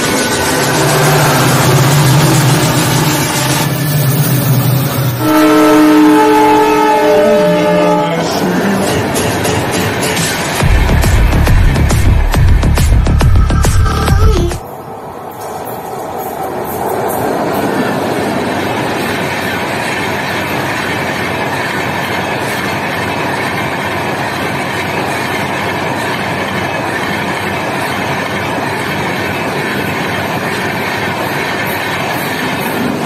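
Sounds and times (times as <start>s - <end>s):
train wheels rushing on rails: 0.0s - 13.8s, 14.5s - 33.0s.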